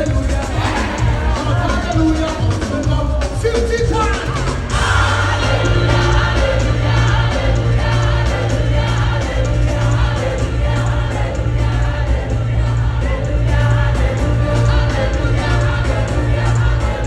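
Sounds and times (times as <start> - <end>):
band with bass line: 0.0 - 17.0
gospel choir singing: 0.0 - 17.0.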